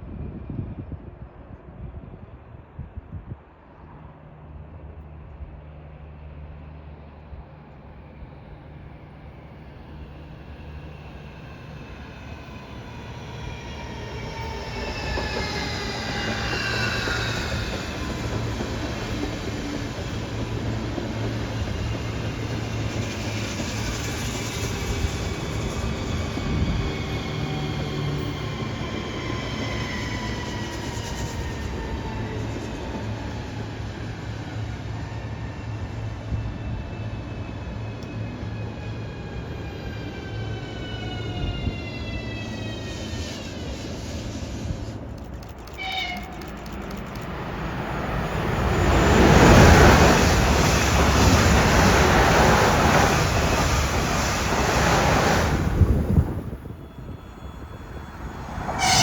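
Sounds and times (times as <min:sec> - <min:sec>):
train running past on rails: 0:00.0 - 0:59.0.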